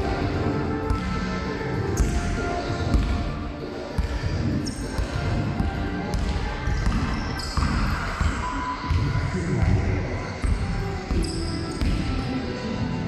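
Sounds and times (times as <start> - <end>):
basketball bouncing on hall floor: 0.0 - 12.5.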